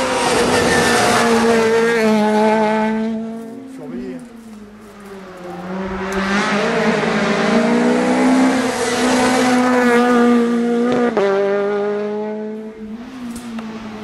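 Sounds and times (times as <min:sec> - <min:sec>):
rally car engine at full speed: 0:00.0 - 0:14.0.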